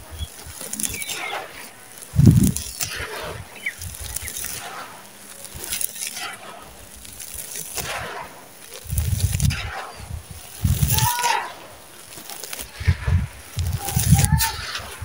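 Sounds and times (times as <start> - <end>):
dirt and stones rustling through fingers: 0.0 - 15.0.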